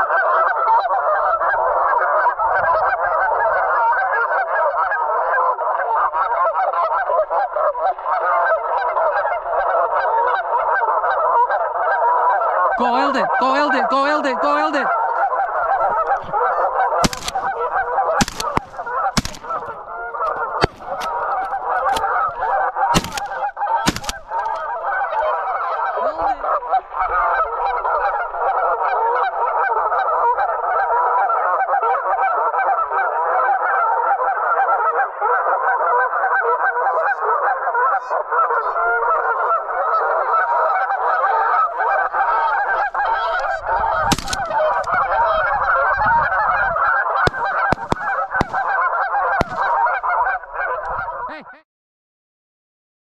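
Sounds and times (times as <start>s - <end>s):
geese honking: 0.0s - 51.6s.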